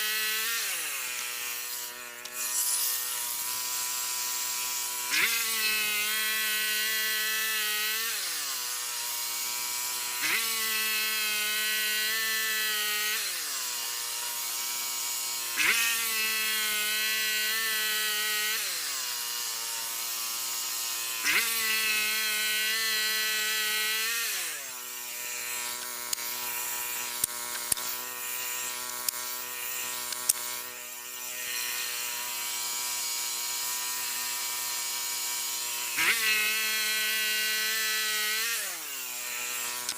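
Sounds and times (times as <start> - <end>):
sawmill engine cutting a log: 0.0 - 39.9.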